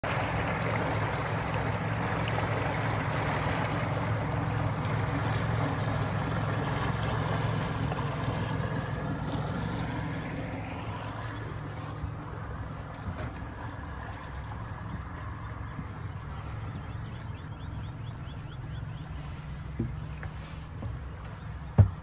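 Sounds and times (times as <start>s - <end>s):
motorboat engine drone: 0.0s - 22.0s
water rushing: 0.0s - 22.0s
wind: 0.0s - 22.0s.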